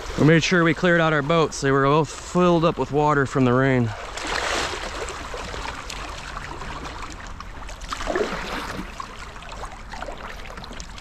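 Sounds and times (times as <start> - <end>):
river water splashing and trickling: 0.0 - 11.0.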